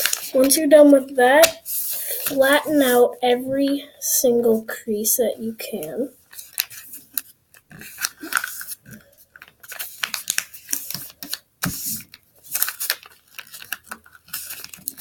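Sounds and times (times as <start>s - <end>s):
paper rustling and crinkling: 0.0s - 3.1s, 5.8s - 15.0s.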